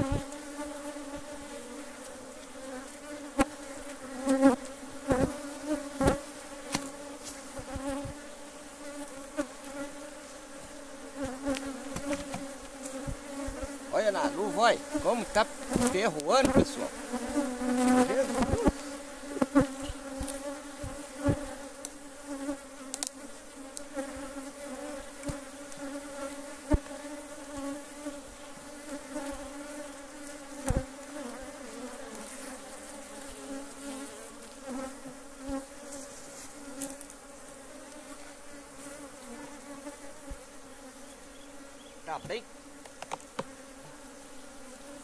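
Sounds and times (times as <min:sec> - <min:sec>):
bees buzzing: 0:00.0 - 0:45.0.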